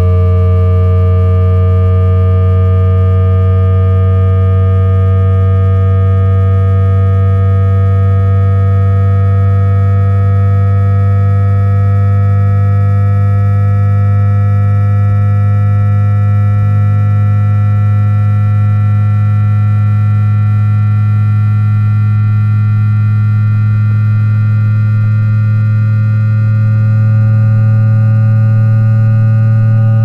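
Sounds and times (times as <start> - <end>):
strong steady low hum: 0.0 - 30.0.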